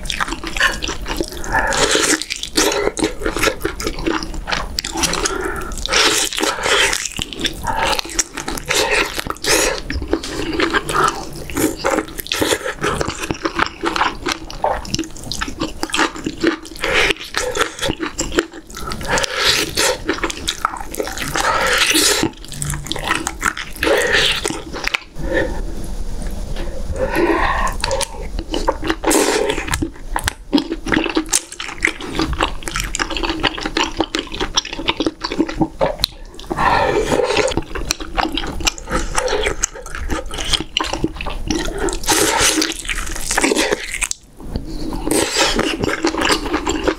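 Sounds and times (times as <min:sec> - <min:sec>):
wet chewing and smacking: 0:00.0 - 0:25.2, 0:27.5 - 0:46.9.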